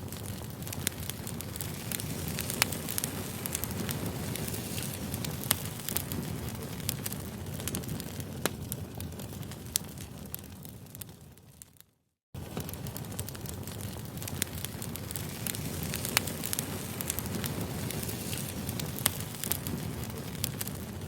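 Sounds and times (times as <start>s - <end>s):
campfire crackling: 0.0s - 11.8s, 12.4s - 21.0s.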